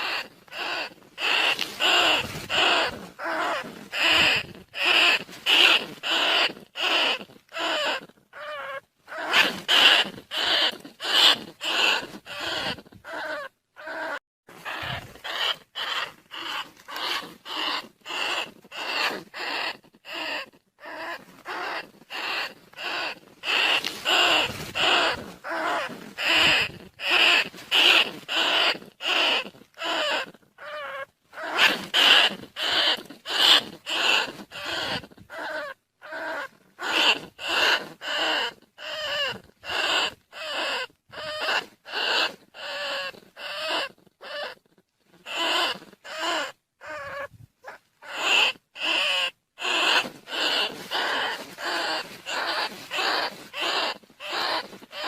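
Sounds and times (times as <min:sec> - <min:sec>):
rat squeaks: 0:00.0 - 0:55.0.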